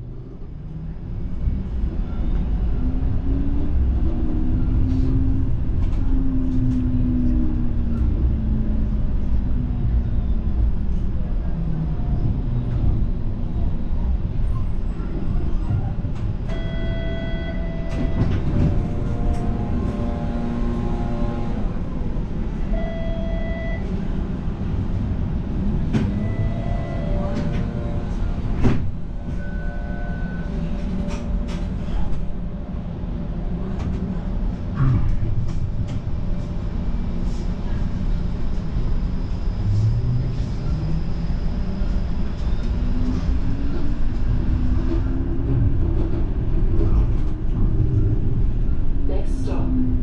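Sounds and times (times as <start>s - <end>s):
streetcar rumbling: 0.0s - 50.0s.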